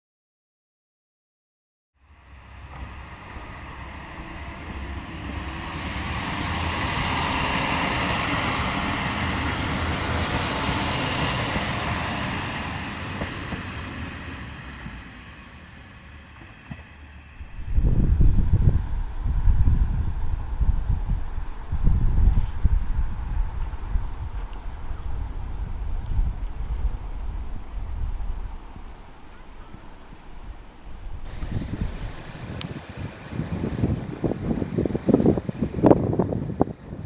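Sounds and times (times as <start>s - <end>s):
diesel railcar passing: 2.0s - 37.0s
wind buffeting microphone: 2.3s - 15.3s, 15.9s - 37.0s.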